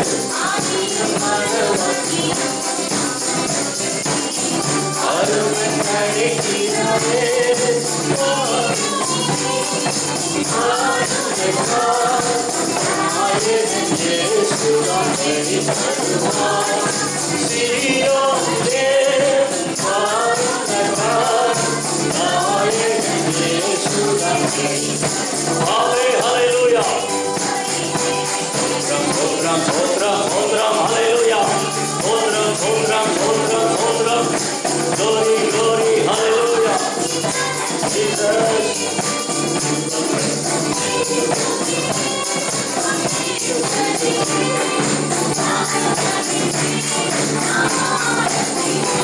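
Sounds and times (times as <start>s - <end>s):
man singing through microphone: 0.0s - 2.8s, 3.4s - 49.0s
tambourine shaking: 0.0s - 49.0s
worship music: 0.0s - 49.0s.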